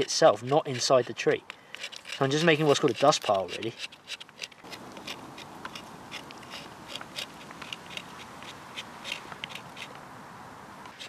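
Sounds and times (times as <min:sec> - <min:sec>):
knife scraping bark: 0:00.0 - 0:10.1, 0:10.8 - 0:11.0.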